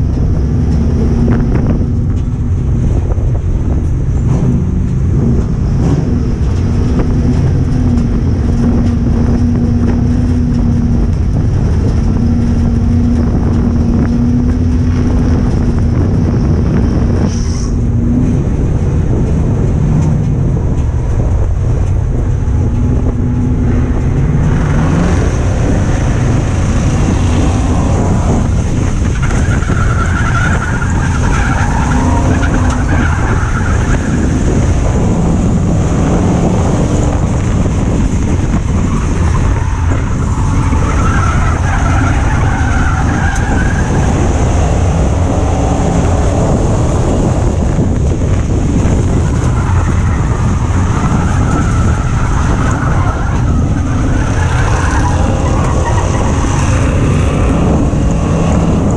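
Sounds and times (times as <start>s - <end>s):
race car engine revving: 0.0s - 58.9s.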